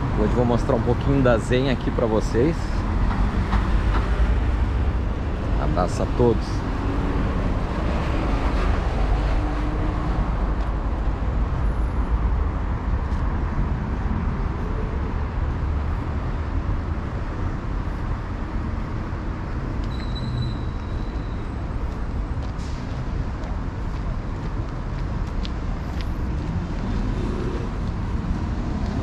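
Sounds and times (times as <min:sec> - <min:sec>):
traffic rumble: 0:00.0 - 0:29.0.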